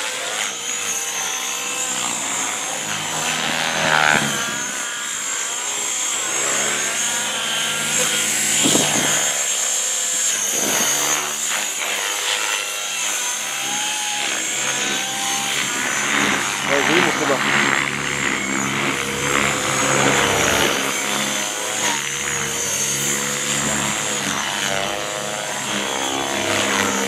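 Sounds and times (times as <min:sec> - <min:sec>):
model helicopter rotor whine: 0:00.0 - 0:27.0.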